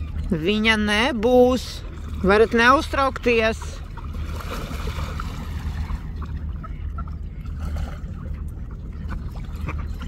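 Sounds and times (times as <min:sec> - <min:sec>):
ducks splashing: 0:00.0 - 0:10.0
low rumble: 0:00.0 - 0:10.0
river water lapping: 0:00.0 - 0:10.0.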